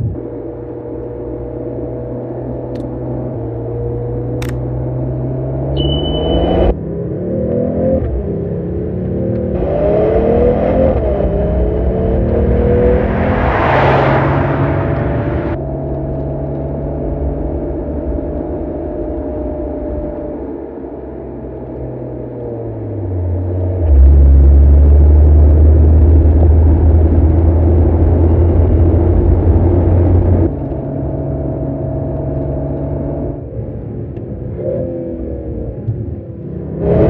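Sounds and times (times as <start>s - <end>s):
car engine droning: 0.0s - 37.0s.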